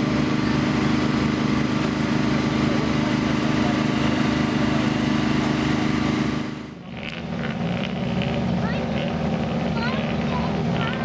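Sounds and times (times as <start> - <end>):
engine droning steadily: 0.0 - 11.0.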